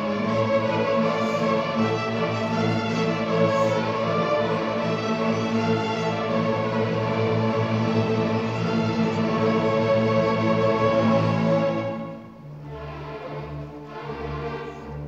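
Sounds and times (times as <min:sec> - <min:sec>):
orchestra playing: 0:00.0 - 0:15.0
violins bowing long notes: 0:00.0 - 0:15.0.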